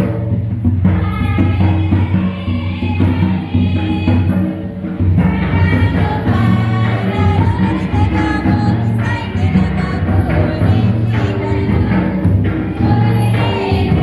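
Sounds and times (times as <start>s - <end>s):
drum beat: 0.0s - 14.0s
voices singing: 0.8s - 14.0s.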